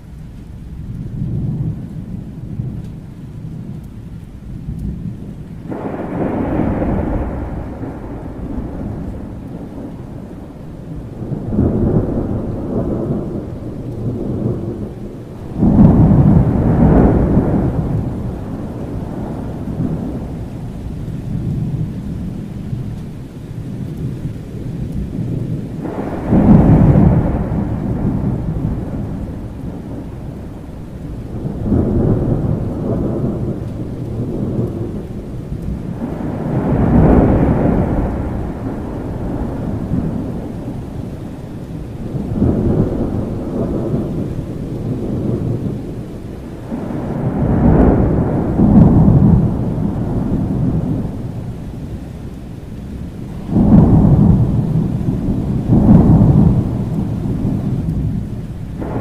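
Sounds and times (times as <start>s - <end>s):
rain: 0.0s - 59.0s
thunder rolling: 4.5s - 59.0s.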